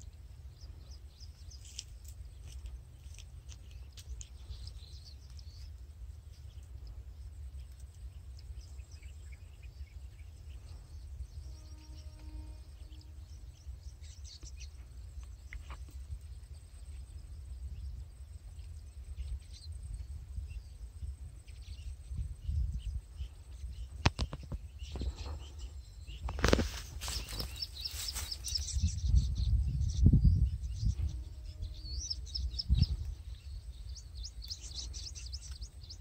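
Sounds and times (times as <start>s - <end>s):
birds chirping: 0.0s - 36.0s
wind rumble on microphone: 0.0s - 36.0s.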